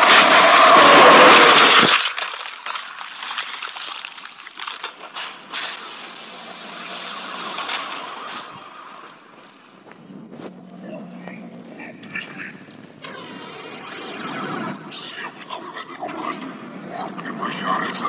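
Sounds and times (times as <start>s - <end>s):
crackling and hissing noise: 0.0s - 18.0s.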